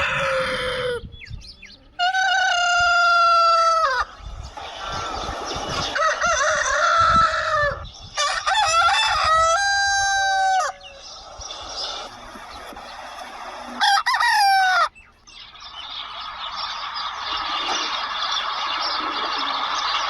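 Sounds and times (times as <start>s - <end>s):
farmyard noise: 0.0s - 20.0s
roosters crowing: 0.0s - 20.0s.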